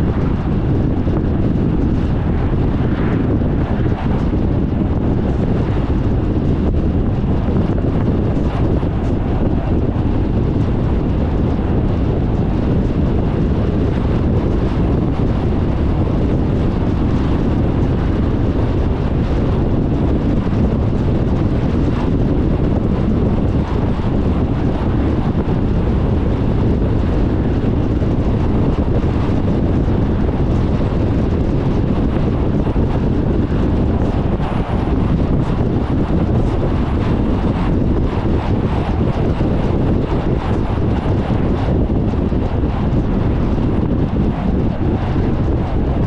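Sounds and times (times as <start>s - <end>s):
car driving on paved road: 0.0s - 46.0s.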